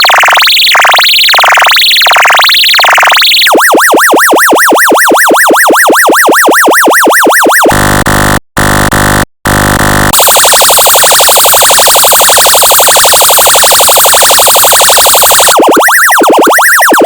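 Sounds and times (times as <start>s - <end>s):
fast warbling siren: 0.0s - 8.0s, 10.1s - 17.0s
electronic yelp siren: 0.0s - 8.8s, 9.5s - 17.0s.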